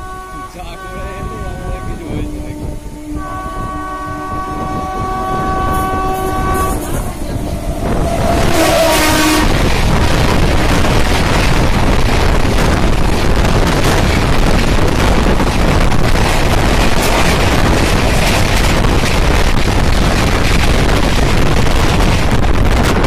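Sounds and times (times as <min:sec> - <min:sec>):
passing train rushing: 0:00.0 - 0:23.0
wind buffeting microphone: 0:00.0 - 0:23.0.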